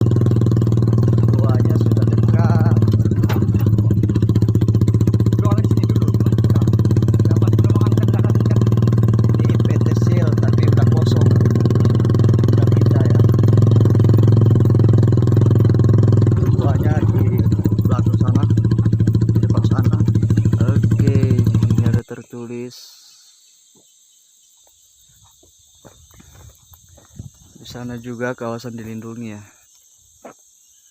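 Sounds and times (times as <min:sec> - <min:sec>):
motorcycle engine running: 0:00.0 - 0:22.1, 0:25.4 - 0:29.2.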